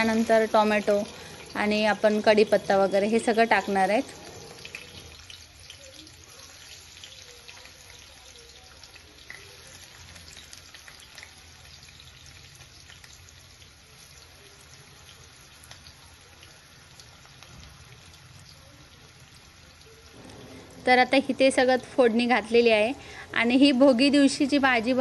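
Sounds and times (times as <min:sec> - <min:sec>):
onion sizzling in oil: 0:00.0 - 0:25.0.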